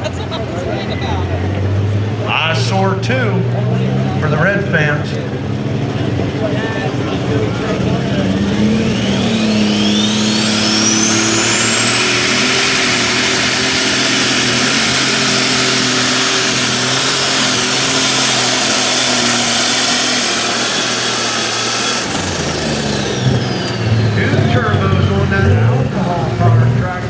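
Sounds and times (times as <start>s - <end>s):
high turbo whine: 0.0s - 27.0s
tractor engine at full power: 0.0s - 27.0s.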